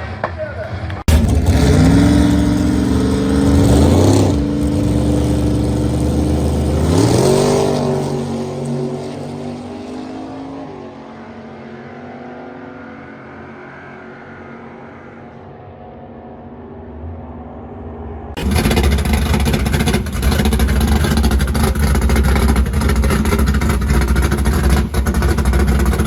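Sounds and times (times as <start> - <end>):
hot rod engine accelerating: 0.0 - 26.0.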